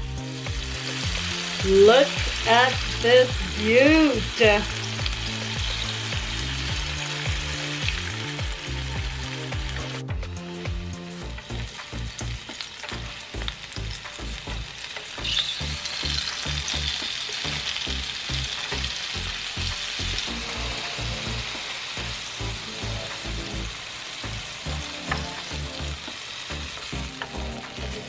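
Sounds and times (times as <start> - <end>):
shrimp deep-frying in oil: 0.0 - 28.0.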